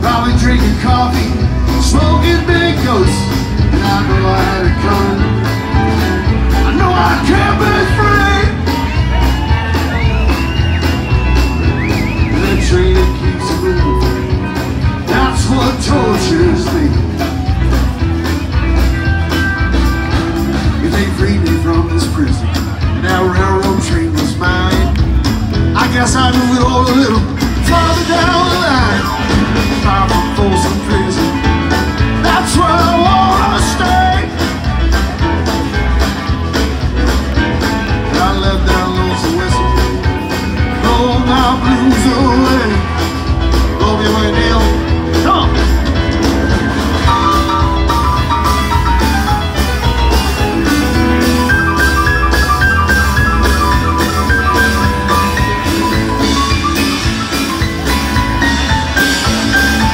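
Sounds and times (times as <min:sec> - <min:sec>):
electric guitar lead melody: 0:00.0 - 0:59.9
live rock band playing: 0:00.0 - 0:59.9.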